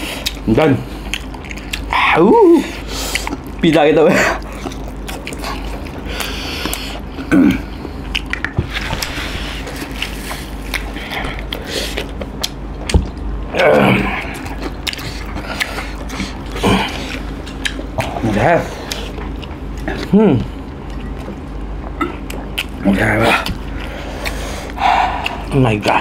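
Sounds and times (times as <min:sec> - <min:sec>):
chewing and smacking: 0:00.0 - 0:26.0.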